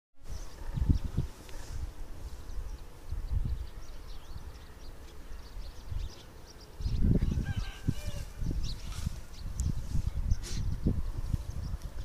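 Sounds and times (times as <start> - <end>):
small birds chirping: 0.2 - 12.0
wind rumbling on microphone: 0.2 - 12.0.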